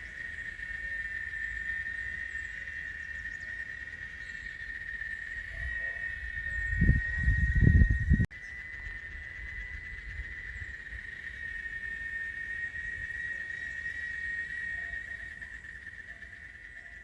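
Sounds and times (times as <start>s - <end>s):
insect chorus trilling: 0.0s - 17.0s.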